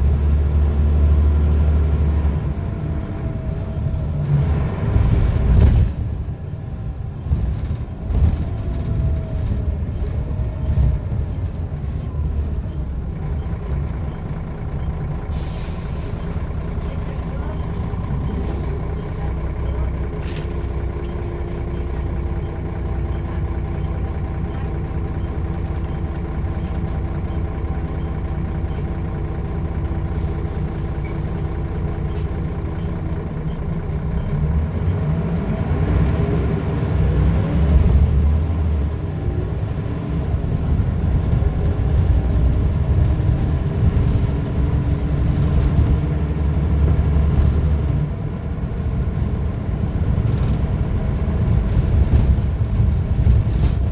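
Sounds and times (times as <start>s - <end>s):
bus engine accelerating: 0.0s - 53.9s
bus engine running: 0.0s - 53.9s.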